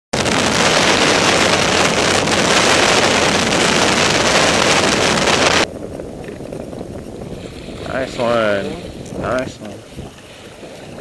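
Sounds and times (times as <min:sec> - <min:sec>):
rush of wind and water: 0:00.2 - 0:11.0
wind buffeting microphone: 0:00.2 - 0:11.0.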